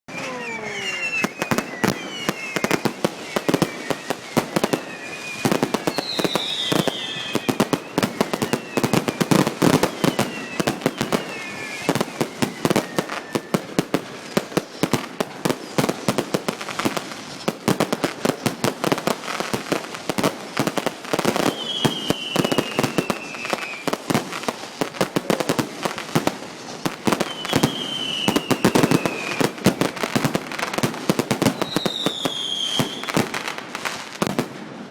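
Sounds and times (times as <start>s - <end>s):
fireworks bangs and crackling: 0.1s - 34.9s
fireworks whistles falling in pitch: 0.1s - 34.9s.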